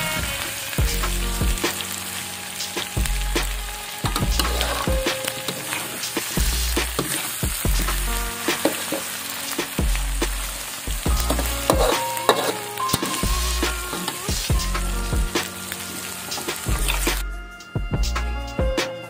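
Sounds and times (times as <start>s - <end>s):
chicken sizzling in a wok: 0.0s - 17.2s
metal spatula scraping a pan: 0.0s - 17.7s.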